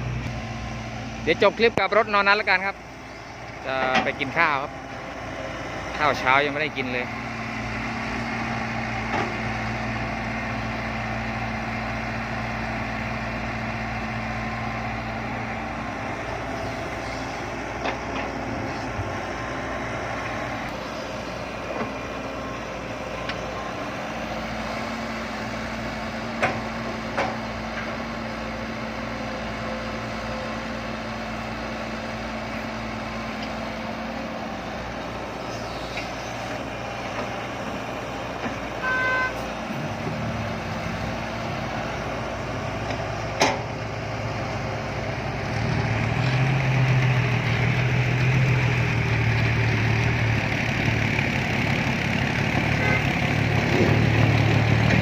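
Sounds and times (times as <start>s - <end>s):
diesel truck engines humming: 0.0s - 55.0s.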